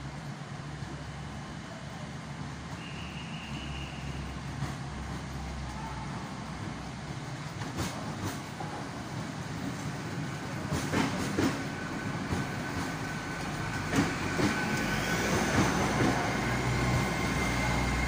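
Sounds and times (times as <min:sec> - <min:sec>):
train running past: 0:00.0 - 0:18.0.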